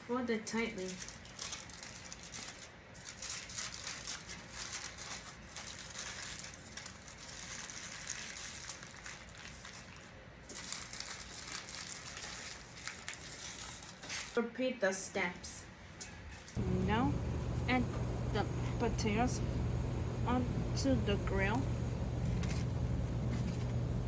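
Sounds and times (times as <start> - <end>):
aluminum foil crinkling: 0.6 - 14.4, 17.1 - 24.0.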